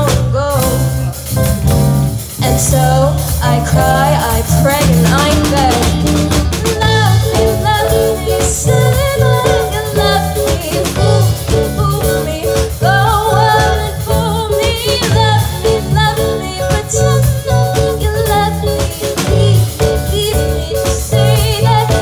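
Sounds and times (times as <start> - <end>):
drum kit: 0.0 - 22.0
electric bass: 0.0 - 22.0
electric guitar: 0.0 - 22.0
female vocal: 2.4 - 22.0.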